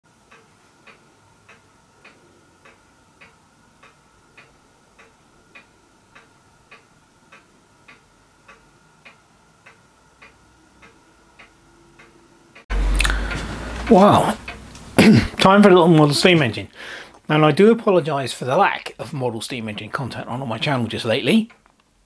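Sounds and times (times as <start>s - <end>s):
steady clock-like ticking: 0.1s - 22.0s.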